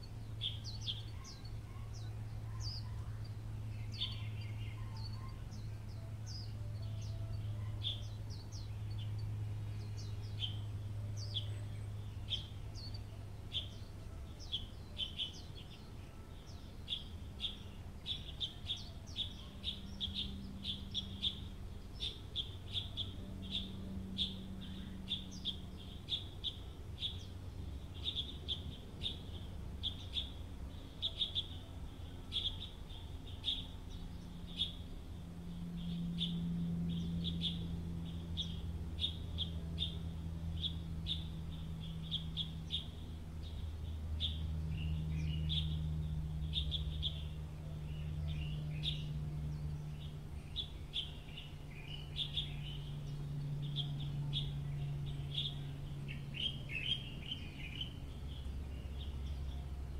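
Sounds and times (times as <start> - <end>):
low hum: 0.0 - 59.9
small birds chirping: 0.0 - 59.9.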